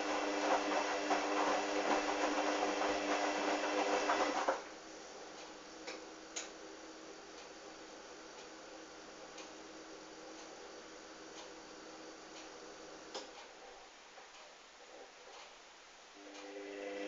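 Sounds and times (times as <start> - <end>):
washing machine drum motor humming: 0.0 - 17.0.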